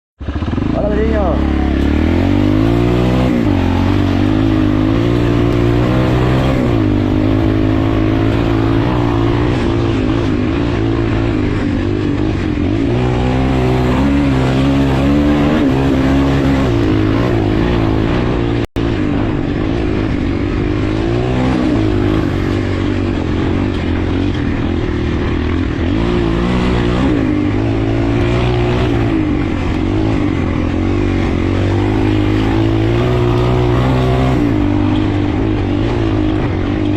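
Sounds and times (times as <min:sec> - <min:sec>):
motorcycle engines revving: 0:00.2 - 0:36.9.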